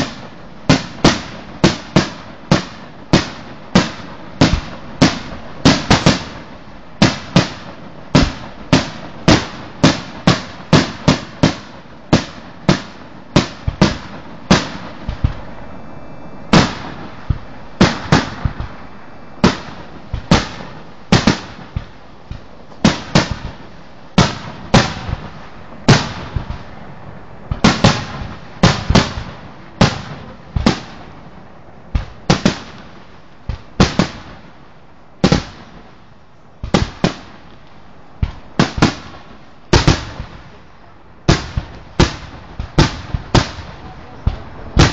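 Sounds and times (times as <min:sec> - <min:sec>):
fireworks bursting with echoes: 0:00.0 - 0:44.9.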